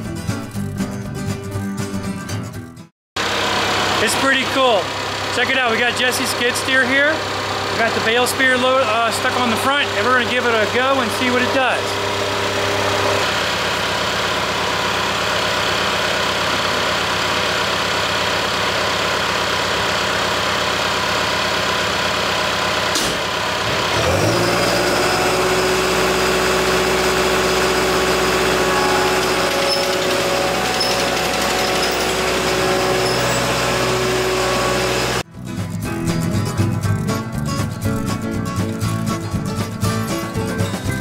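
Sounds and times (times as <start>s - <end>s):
diesel engine running and revving: 3.2s - 41.0s.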